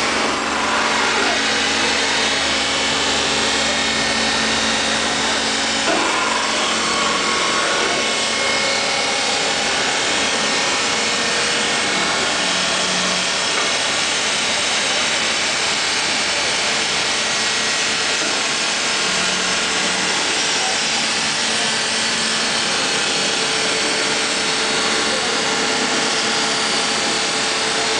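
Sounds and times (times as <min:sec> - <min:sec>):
grinding machine running: 0:00.0 - 0:27.9.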